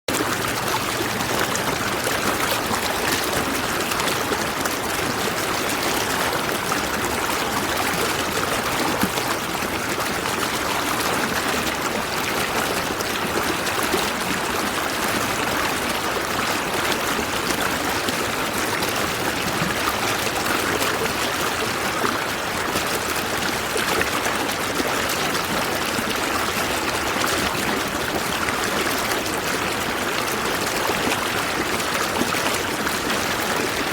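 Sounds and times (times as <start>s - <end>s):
water flowing over rocks: 0.1s - 33.9s.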